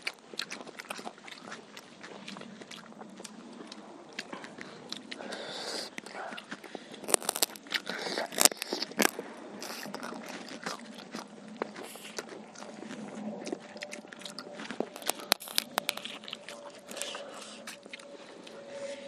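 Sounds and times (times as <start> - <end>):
biting and chewing crunchy chicken: 0.0 - 19.0.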